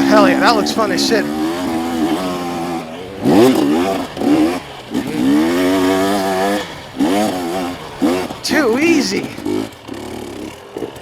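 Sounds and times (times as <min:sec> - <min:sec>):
two-stroke dirt bike revving: 0:00.0 - 0:11.0.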